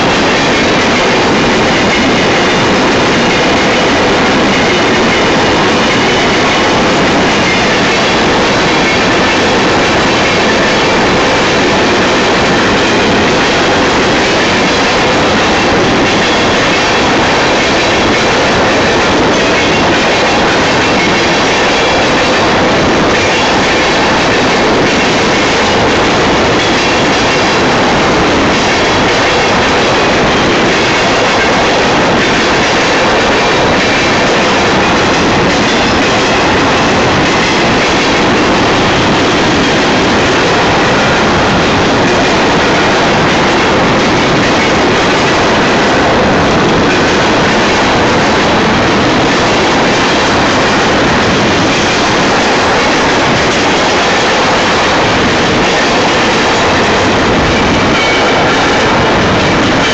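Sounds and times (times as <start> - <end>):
train wheels clattering over track: 0.0 - 59.9.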